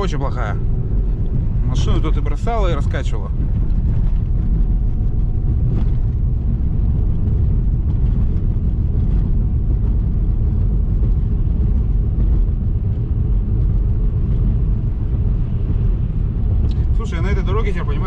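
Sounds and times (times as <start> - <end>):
tyre and road noise in car: 0.0 - 18.0.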